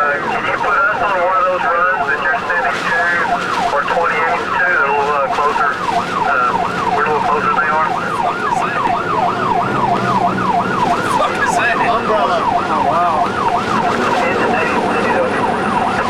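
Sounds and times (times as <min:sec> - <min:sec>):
engine drone: 0:00.0 - 0:16.0
fire siren yelping: 0:00.0 - 0:16.0
second siren sweeping: 0:00.0 - 0:16.0.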